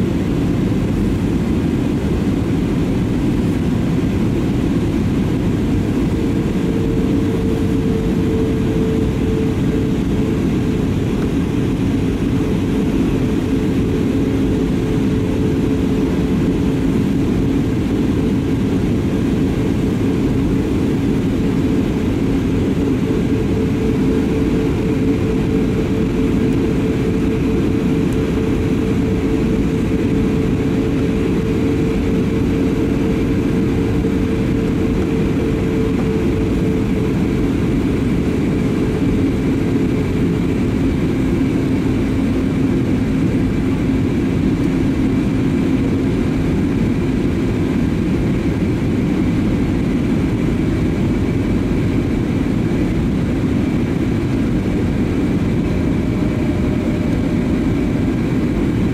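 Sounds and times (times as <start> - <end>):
jet engine hum: 0.0 - 58.9.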